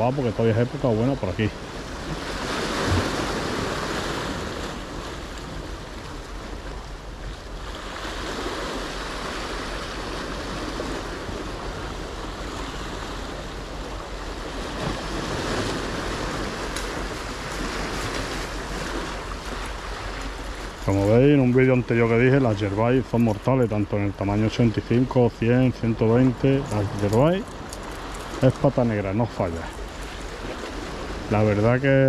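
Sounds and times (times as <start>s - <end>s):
waves breaking over boulders: 0.0s - 32.0s.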